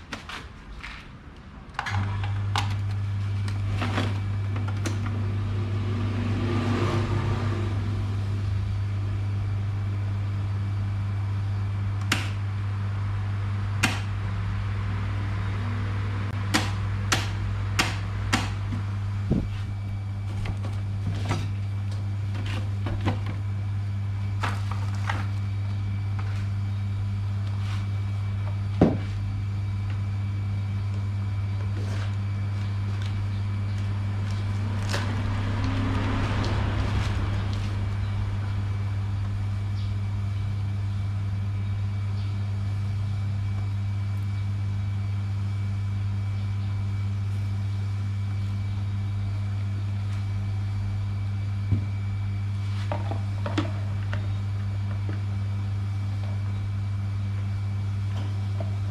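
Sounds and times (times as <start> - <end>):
electric fan motor humming: 0.0 - 58.9.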